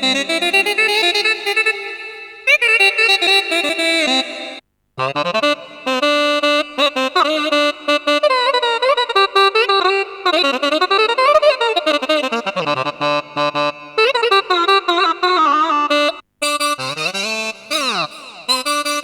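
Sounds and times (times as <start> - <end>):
reed-like keyboard lead melody: 0.0 - 2.4, 3.1 - 19.0.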